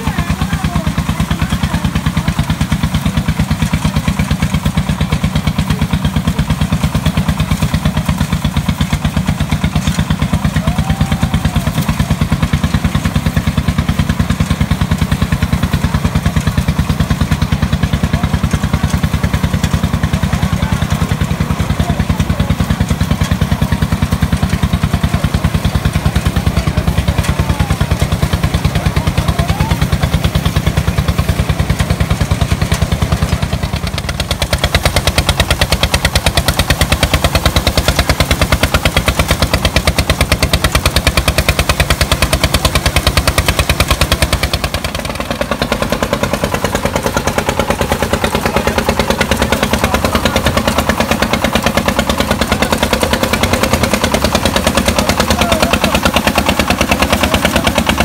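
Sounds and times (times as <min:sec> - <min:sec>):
rice thresher engine running: 0:00.0 - 0:58.0.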